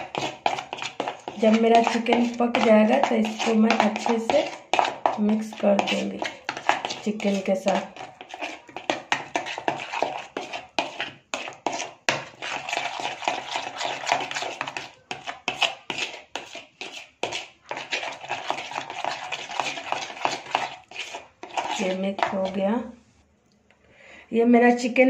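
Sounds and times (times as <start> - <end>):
spoon scraping plastic bowl: 0.0 - 22.8
spoon stirring thick paste: 0.0 - 22.9.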